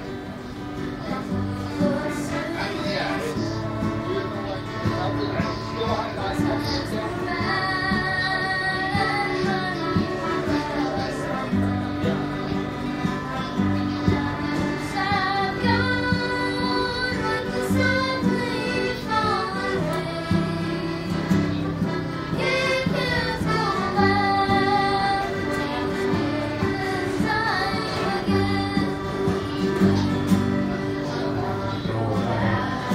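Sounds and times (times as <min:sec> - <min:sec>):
boy singing: 0:01.1 - 0:04.9, 0:06.2 - 0:32.9.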